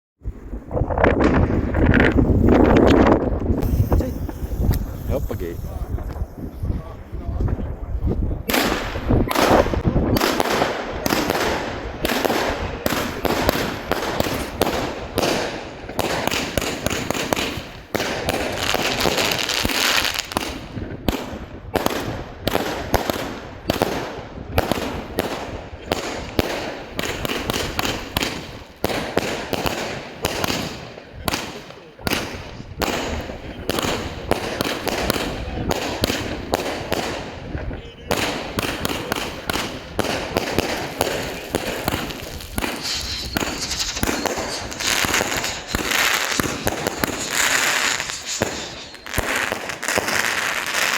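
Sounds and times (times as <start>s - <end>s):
fireworks firing in salvos: 0.2s - 50.9s.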